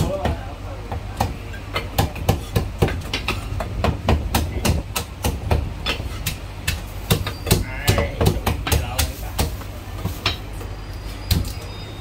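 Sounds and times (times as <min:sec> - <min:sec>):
cleavers chopping poultry: 0:00.0 - 0:11.7.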